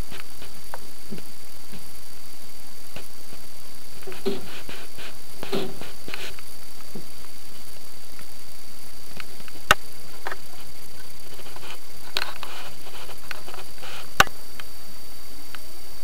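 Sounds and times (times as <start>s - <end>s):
rats scrabbling in bedding: 0.0s - 16.0s
steady hiss: 0.0s - 16.0s.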